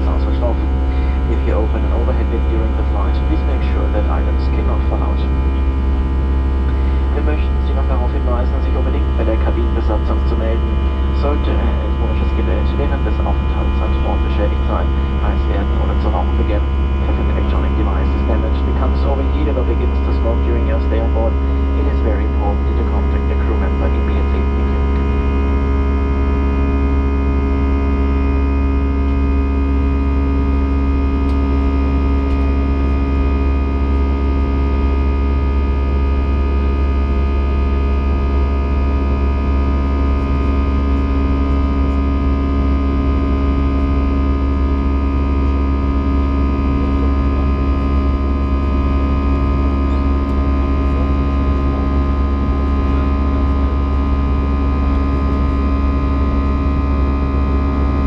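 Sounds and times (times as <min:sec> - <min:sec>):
jet engine drone: 0:00.0 - 0:58.0
low hum: 0:00.0 - 0:58.0
steady tones: 0:00.0 - 0:58.0.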